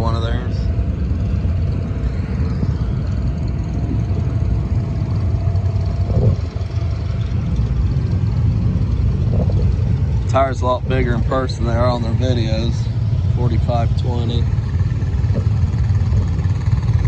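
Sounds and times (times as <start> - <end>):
engine idling: 0.0 - 17.0
faint steady whine: 0.0 - 17.0.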